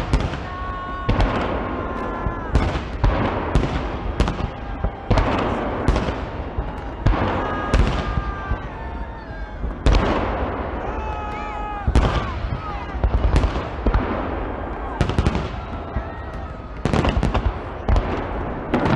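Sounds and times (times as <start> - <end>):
firework crackling: 0.0 - 18.9.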